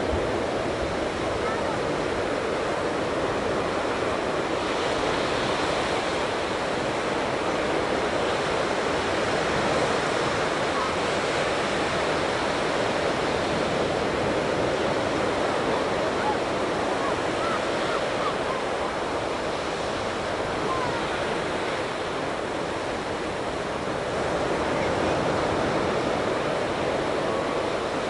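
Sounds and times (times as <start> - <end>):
ocean waves breaking on beach: 0.0 - 28.0
wind: 0.0 - 28.0.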